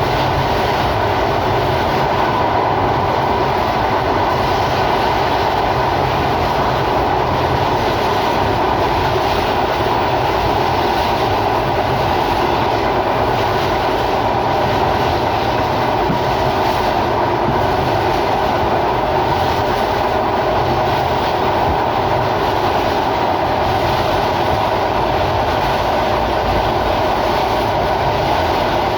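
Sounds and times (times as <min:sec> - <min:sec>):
train wheels rumbling on rails: 0:00.0 - 0:28.9.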